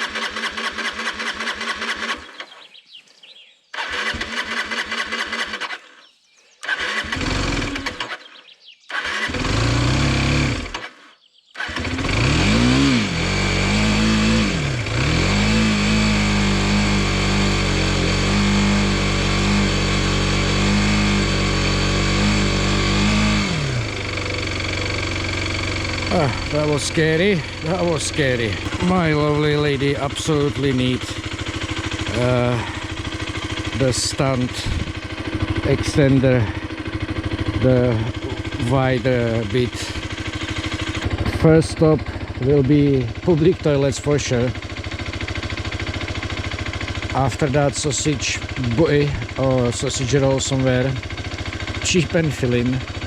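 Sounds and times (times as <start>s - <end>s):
motorcycle electric starter cranking: 0.0s - 2.6s, 3.7s - 53.0s
motorcycle engine revving and idling: 0.0s - 2.8s, 3.7s - 53.0s.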